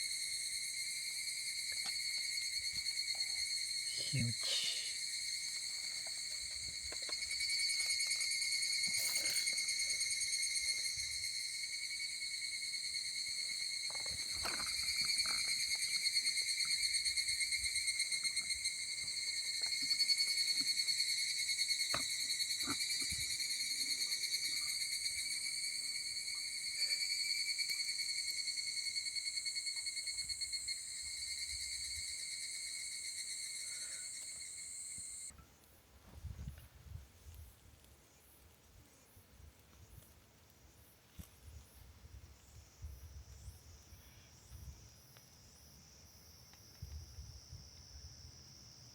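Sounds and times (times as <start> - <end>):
crickets trilling: 0.0 - 48.9.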